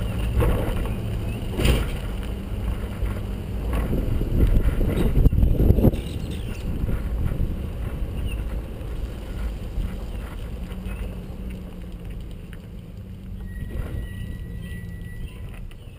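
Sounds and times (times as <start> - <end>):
road noise rumble: 0.0 - 15.9
wind on microphone: 0.0 - 15.9.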